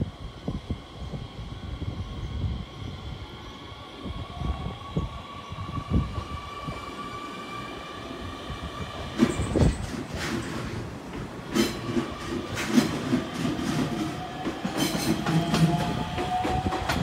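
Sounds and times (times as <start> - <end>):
electric train whine: 0.0 - 17.0
wheels rumbling on rail: 0.0 - 17.0.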